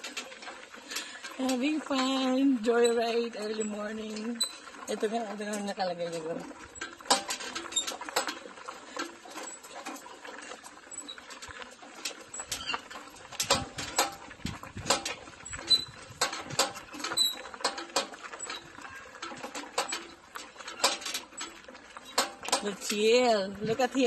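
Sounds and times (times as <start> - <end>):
bike wheels crunching on gravel: 0.0 - 24.0.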